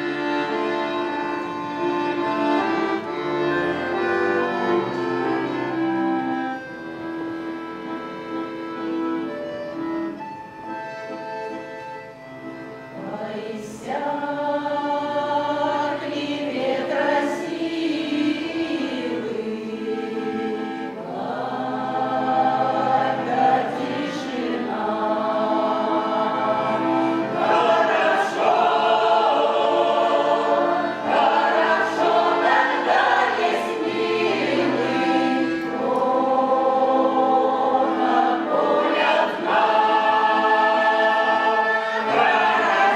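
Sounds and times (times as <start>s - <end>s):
choir singing folk song: 0.0s - 9.4s, 12.8s - 42.9s.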